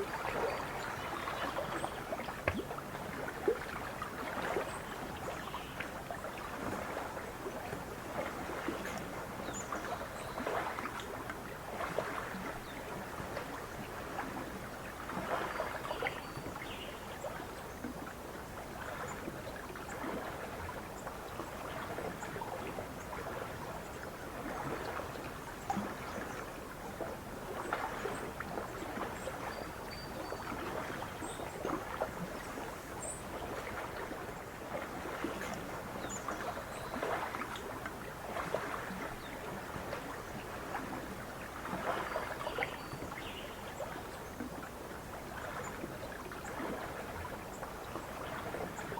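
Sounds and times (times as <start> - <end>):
lake waves lapping at shore: 0.0 - 48.9.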